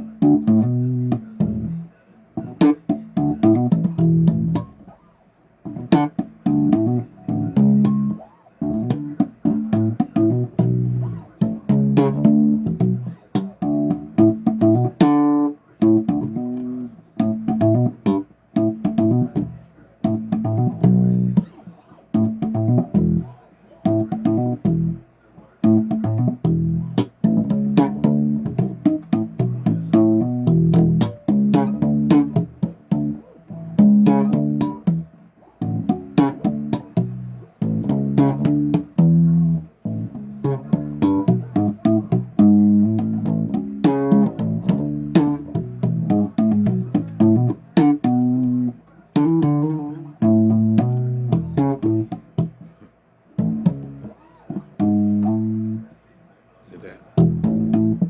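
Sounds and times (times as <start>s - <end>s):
bass guitar riffs: 0.0s - 55.9s, 57.0s - 58.0s.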